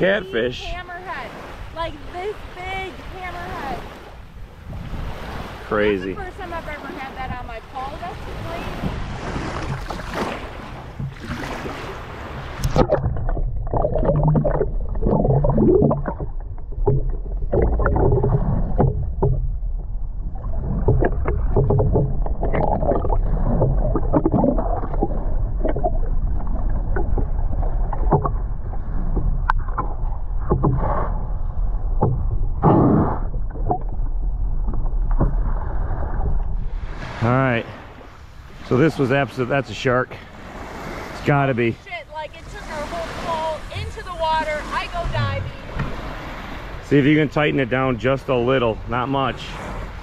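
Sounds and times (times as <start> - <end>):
muffled underwater water surges: 0.0 - 50.0.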